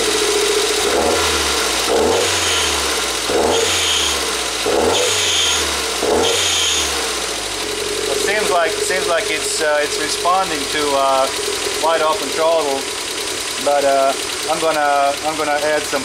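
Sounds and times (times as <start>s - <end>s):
car engine revving: 0.0s - 16.0s
engine misfiring at idle: 0.0s - 16.0s.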